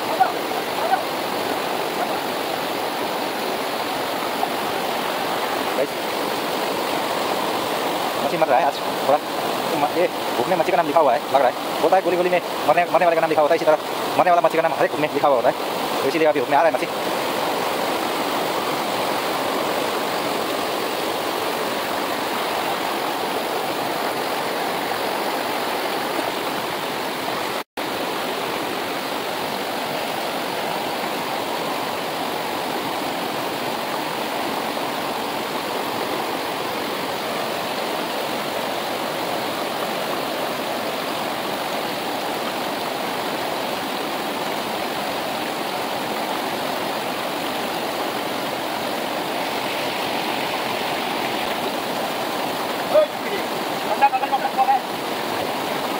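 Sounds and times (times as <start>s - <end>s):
river water rushing over rocks: 0.0s - 55.9s.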